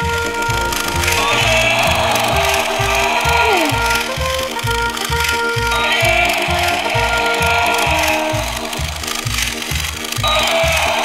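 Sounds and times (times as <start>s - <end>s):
music with bass beat: 0.0s - 11.0s
toy gear motor whirring: 0.1s - 11.0s.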